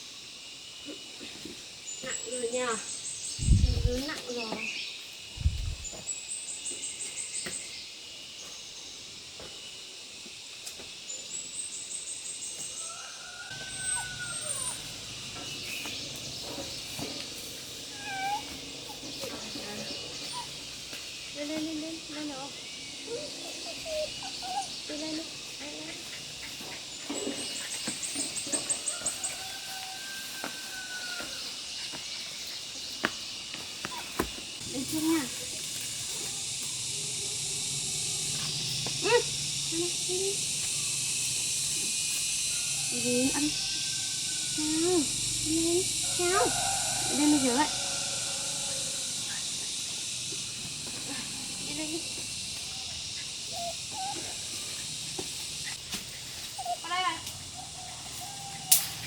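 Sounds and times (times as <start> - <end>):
steady high hiss: 1.6 - 59.0.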